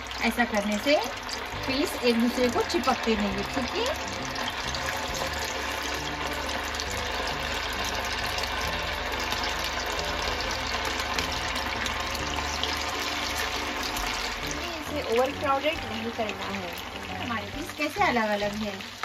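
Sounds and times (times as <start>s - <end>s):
oil sizzling and bubbling: 0.0s - 19.0s.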